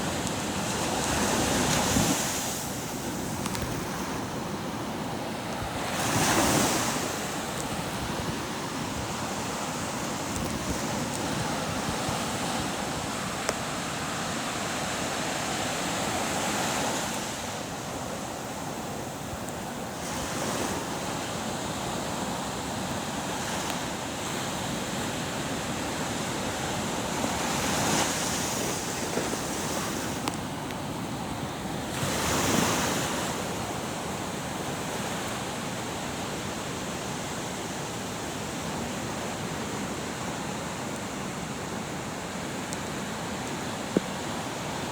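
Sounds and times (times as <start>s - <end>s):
waves washing and breaking: 0.0s - 44.9s.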